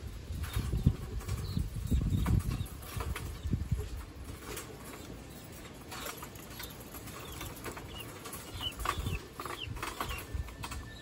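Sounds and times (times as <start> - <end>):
beaks pecking at feed: 0.3 - 11.0.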